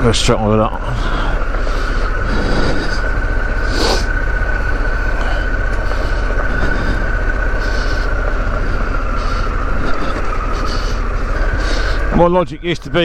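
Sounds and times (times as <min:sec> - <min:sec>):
high whine: 0:00.0 - 0:13.0
motorcycle engine rumbling: 0:00.0 - 0:13.0.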